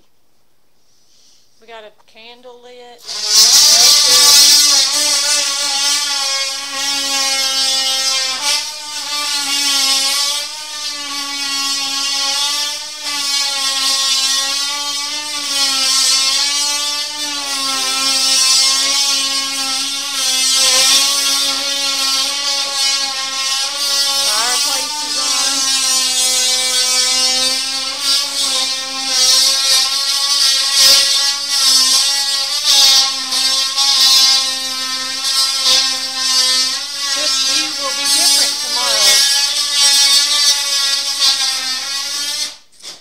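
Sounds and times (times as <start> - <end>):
power tool whining: 3.0 - 43.0.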